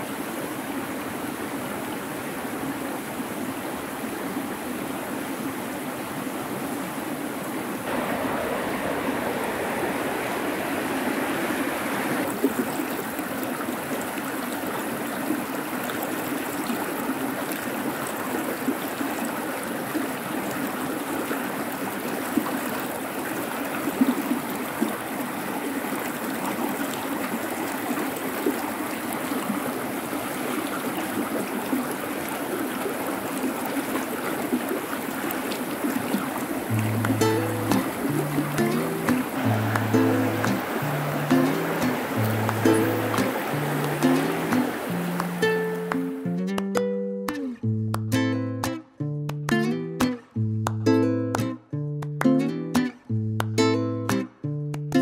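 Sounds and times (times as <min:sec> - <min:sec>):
river water rushing over stones: 0:00.0 - 0:46.4.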